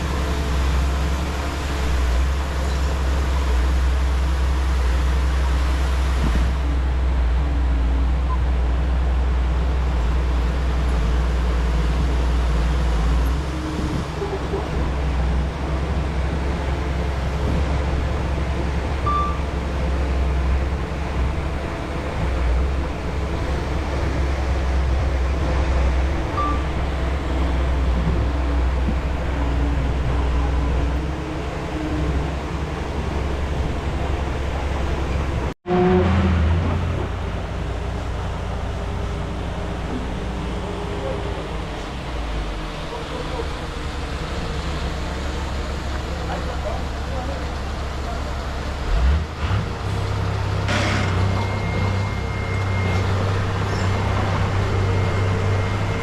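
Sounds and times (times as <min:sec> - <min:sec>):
bulldozer diesel engine rumbling: 0:00.0 - 0:56.0.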